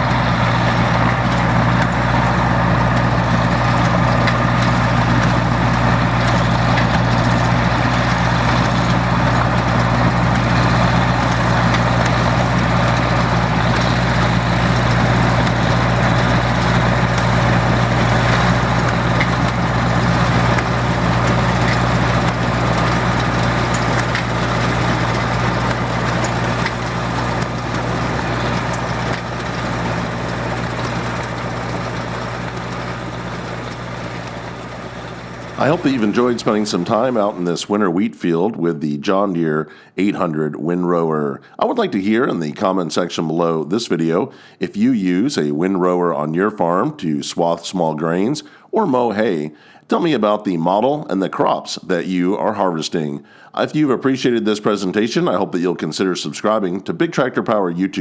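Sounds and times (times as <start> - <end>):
windrower engine running: 0.0 - 51.6.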